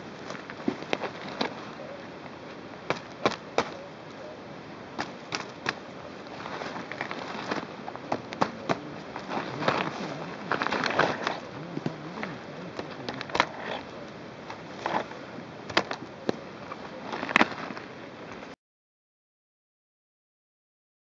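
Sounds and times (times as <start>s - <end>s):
campfire crackling and popping: 0.1s - 4.2s, 4.9s - 18.4s.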